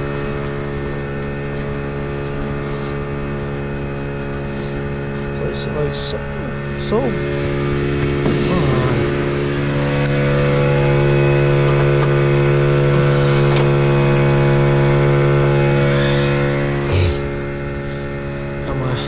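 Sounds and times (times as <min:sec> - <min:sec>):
motor humming steadily: 0:00.0 - 0:19.0.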